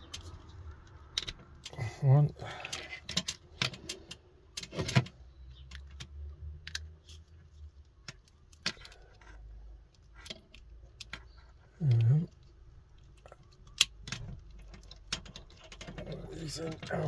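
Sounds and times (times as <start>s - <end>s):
connectors clicking and rattling: 0.0s - 17.0s.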